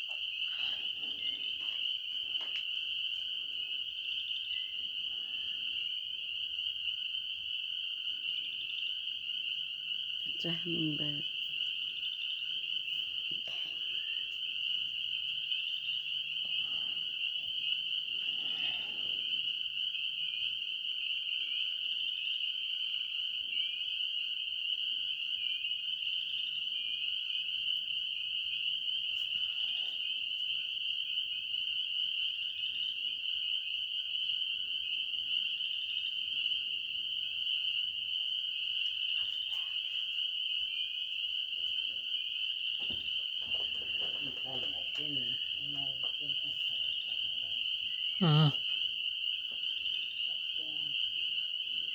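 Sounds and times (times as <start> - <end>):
frogs trilling: 0.0 - 51.9.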